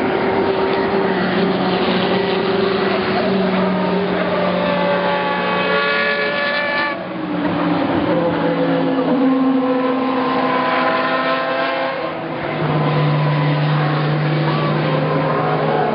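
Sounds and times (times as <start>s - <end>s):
race car engines: 0.0s - 15.9s.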